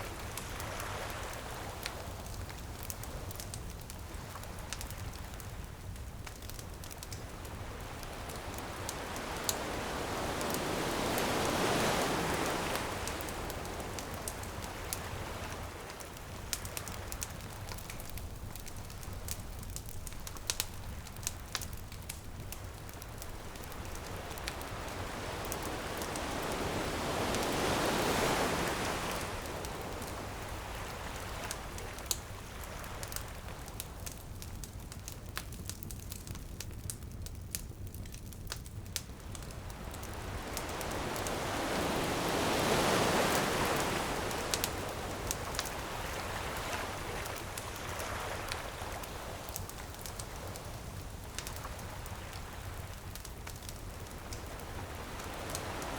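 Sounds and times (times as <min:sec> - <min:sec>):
ocean waves on beach: 0:00.0 - 0:03.4, 0:06.5 - 0:33.8, 0:39.2 - 0:55.9
bonfire crackling and popping: 0:00.0 - 0:55.9.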